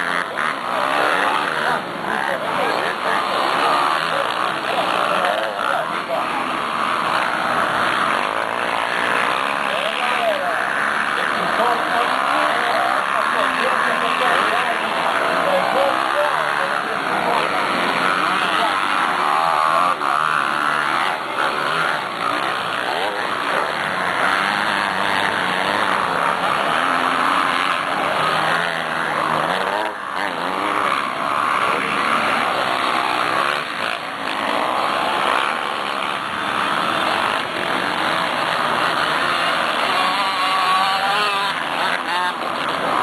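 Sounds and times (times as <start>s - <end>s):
motocross bikes racing: 0.0s - 43.0s.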